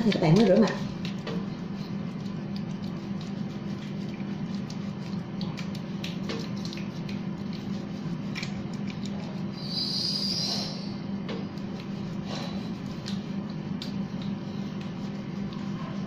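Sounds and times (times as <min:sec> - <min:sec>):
hands rubbing wet foamy face: 0:00.0 - 0:16.0
steady low hum: 0:00.0 - 0:16.0.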